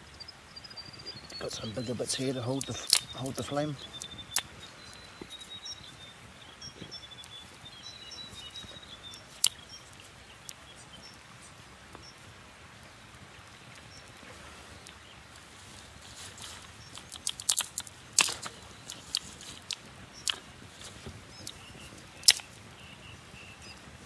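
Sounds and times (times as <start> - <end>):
bird chirping: 0.0 - 12.3, 12.9 - 24.0
campfire crackling: 0.0 - 24.0
steady background hiss: 0.0 - 24.0.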